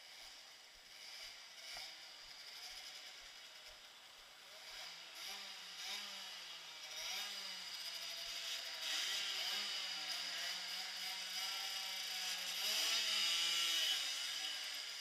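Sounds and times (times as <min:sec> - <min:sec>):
small motorcycle engines revving: 0:00.0 - 0:15.0.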